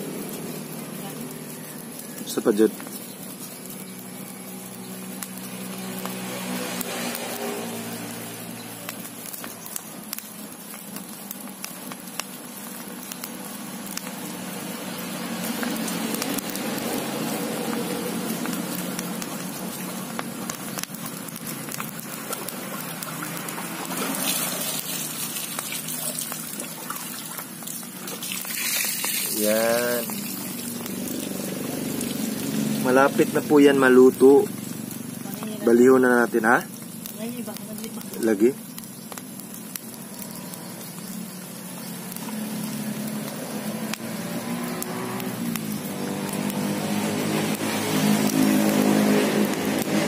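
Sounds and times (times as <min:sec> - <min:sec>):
cooking fire crackling: 0:00.0 - 0:50.0.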